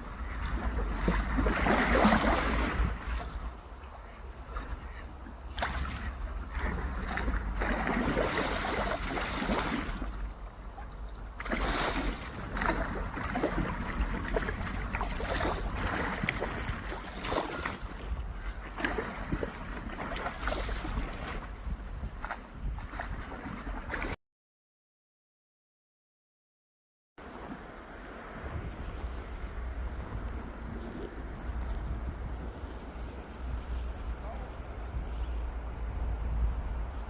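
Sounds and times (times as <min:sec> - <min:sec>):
wind buffeting microphone: 0:00.0 - 0:24.1, 0:27.2 - 0:37.0
sea waves: 0:00.0 - 0:24.2, 0:27.2 - 0:37.0.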